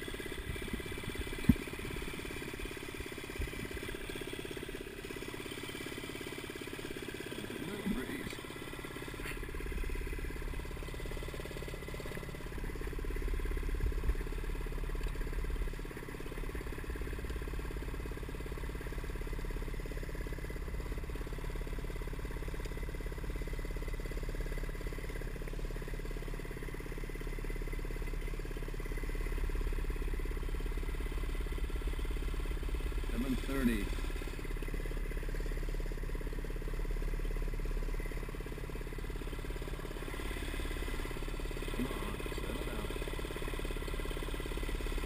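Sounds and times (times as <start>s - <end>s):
paramotor engine idling: 0.0s - 45.0s.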